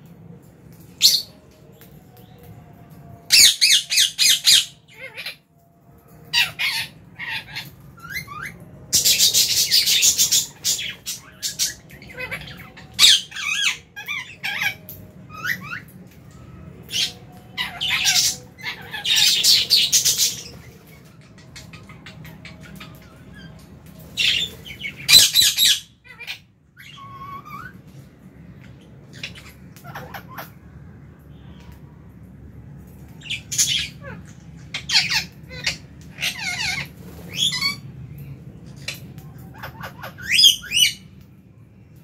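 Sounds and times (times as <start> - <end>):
low steady hum: 0.0 - 42.0
birds squawking and chirping: 0.8 - 2.5, 3.3 - 32.2, 32.8 - 41.2.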